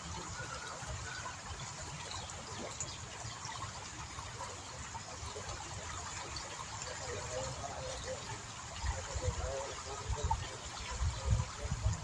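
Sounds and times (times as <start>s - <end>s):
river water trickling and gurgling: 0.0s - 12.0s.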